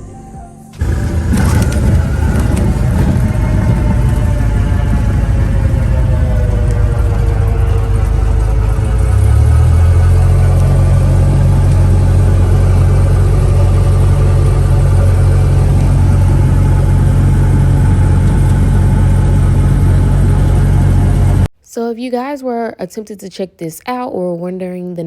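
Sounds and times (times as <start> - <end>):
car engine and road noise: 0.7 - 21.5.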